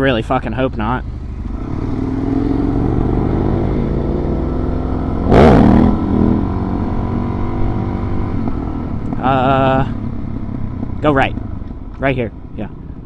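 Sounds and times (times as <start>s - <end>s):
motorcycle engine running: 0.5s - 13.0s.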